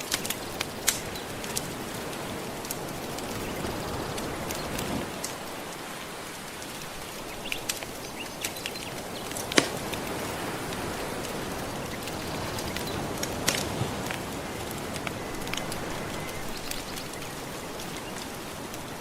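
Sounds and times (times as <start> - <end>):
gentle ocean waves: 0.0 - 19.0
wood fire crackling and popping: 0.0 - 19.0.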